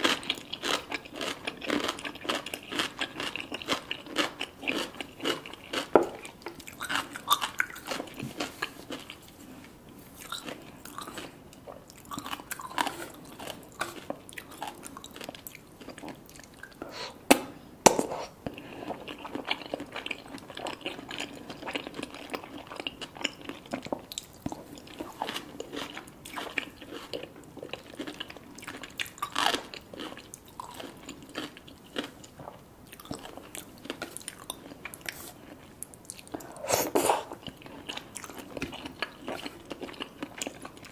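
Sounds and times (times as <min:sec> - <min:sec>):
chewing and crunching crisp food: 0:00.0 - 0:16.9, 0:18.4 - 0:40.9.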